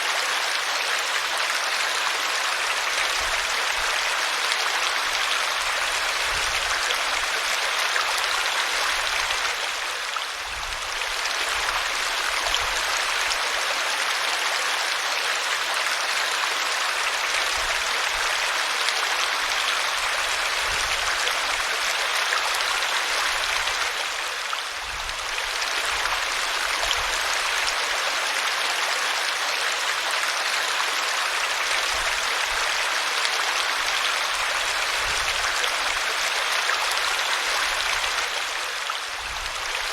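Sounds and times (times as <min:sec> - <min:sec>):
small waterfall splashing over rocks: 0:00.0 - 0:39.9.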